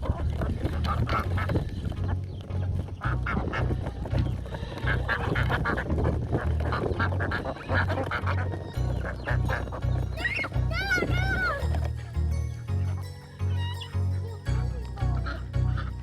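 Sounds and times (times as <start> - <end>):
ducks quacking: 0.0 - 12.2, 12.8 - 16.0.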